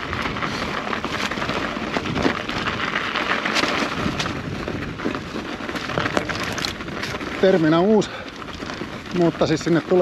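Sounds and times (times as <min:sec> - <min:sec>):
wind on microphone: 0:00.0 - 0:09.4
bike clicks and rattles: 0:00.0 - 0:10.0
bike tyres crunching on gravel: 0:00.0 - 0:10.0.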